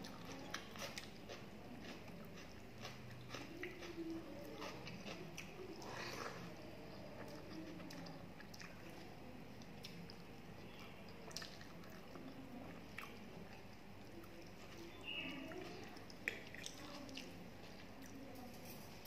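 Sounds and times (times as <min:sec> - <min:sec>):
chewing rice: 0:00.0 - 0:19.0.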